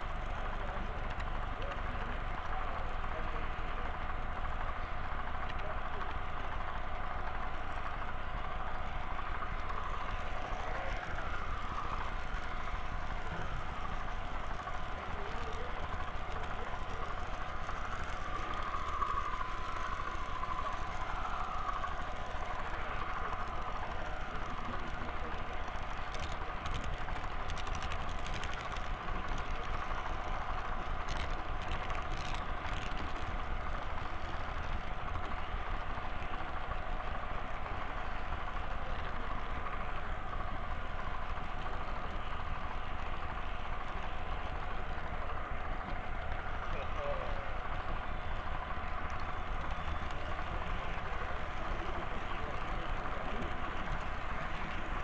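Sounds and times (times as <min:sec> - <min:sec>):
model train humming and whining: 0:00.0 - 0:55.0
murmur of voices: 0:00.0 - 0:55.0.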